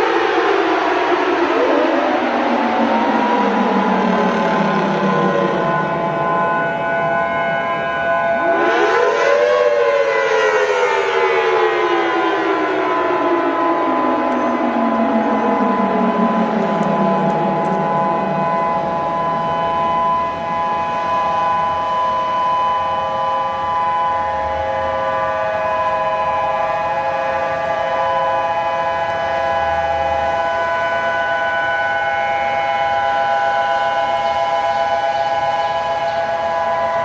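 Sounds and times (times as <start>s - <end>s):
warning siren chord: 0.0s - 37.0s.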